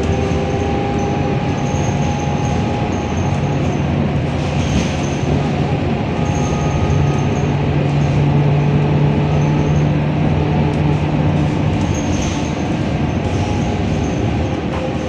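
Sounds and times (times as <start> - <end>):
diesel bus engine droning: 0.0 - 15.0
low drivetrain hum: 0.0 - 15.0
road and body rumble: 0.0 - 15.0.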